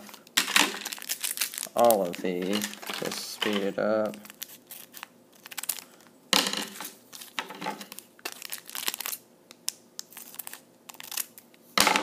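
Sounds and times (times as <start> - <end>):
foil wrappers crinkling: 0.0 - 9.2, 10.0 - 11.6.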